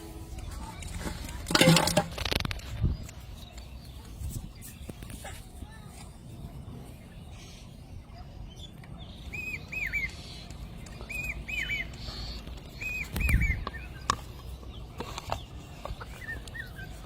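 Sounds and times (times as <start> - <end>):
bird chirping: 2.2 - 17.0.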